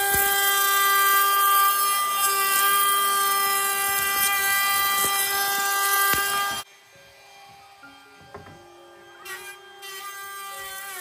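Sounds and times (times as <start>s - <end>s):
wood router whining: 0.0s - 11.0s.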